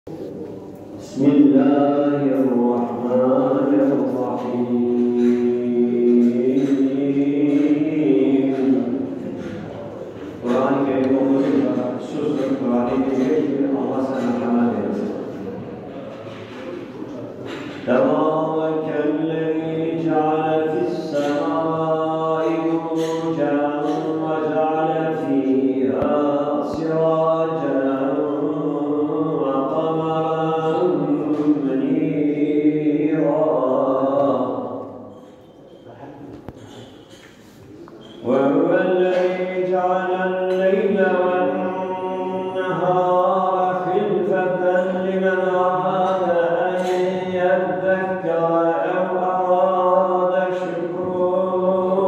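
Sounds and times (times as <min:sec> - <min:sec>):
man chanting recitation: 0:00.1 - 0:52.0.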